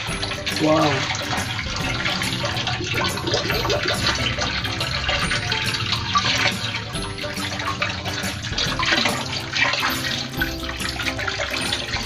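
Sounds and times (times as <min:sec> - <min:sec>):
water pouring from hose into pond: 0:00.0 - 0:12.0.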